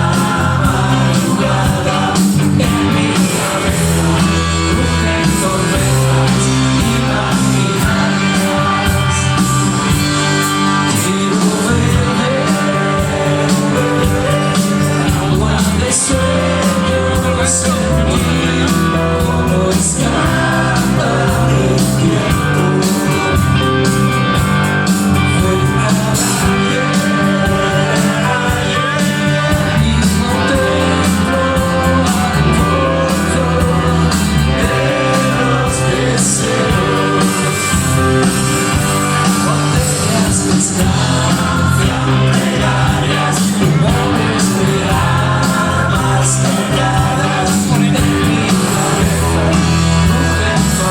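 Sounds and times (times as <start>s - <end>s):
rock song with sung vocal: 0.0s - 50.9s.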